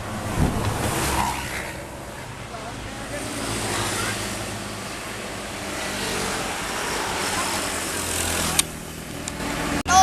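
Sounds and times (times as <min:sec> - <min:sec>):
tyre and traffic rush: 0:00.0 - 0:10.0.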